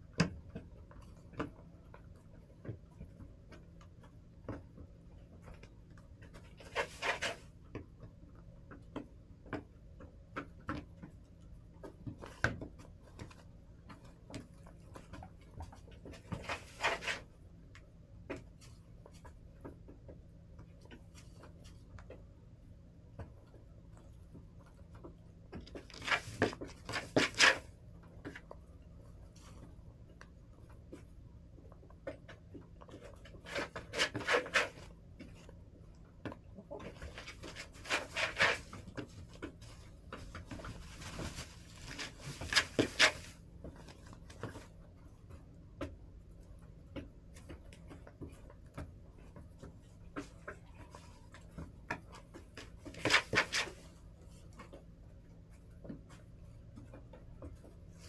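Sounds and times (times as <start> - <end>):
hens pecking and scratching: 0.0 - 58.0.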